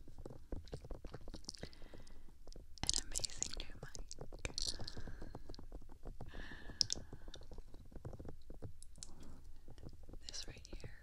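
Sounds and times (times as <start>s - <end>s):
fingertips tapping on microphone: 0.0s - 11.0s.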